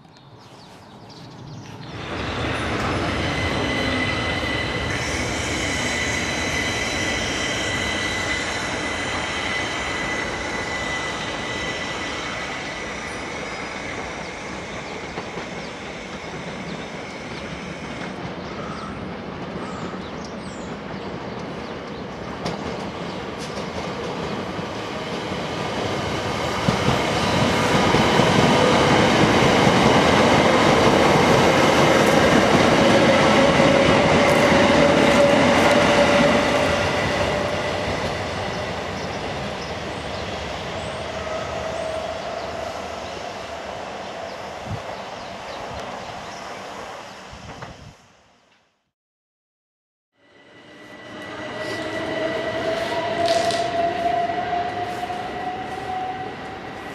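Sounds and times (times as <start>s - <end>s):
train wheels rumbling on rail: 1.2s - 48.0s, 50.8s - 56.9s
steady train whine: 1.4s - 19.6s, 20.3s - 48.4s, 50.2s - 56.9s.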